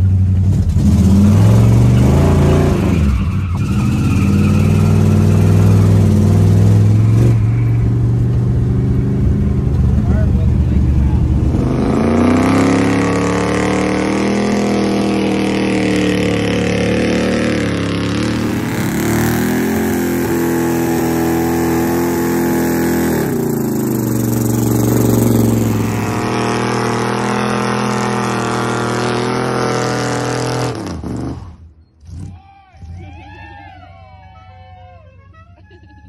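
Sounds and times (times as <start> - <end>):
car engine revving high: 0.4 - 31.5.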